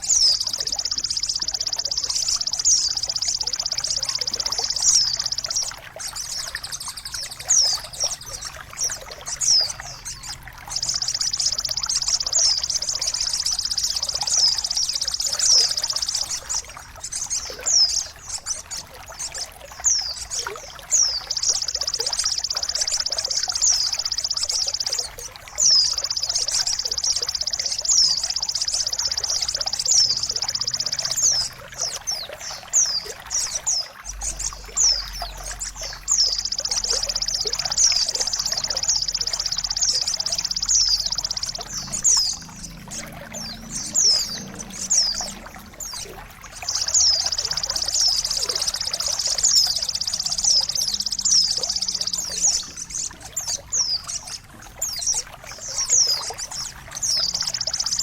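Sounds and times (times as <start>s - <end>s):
songbird trilling: 0.0s - 58.0s.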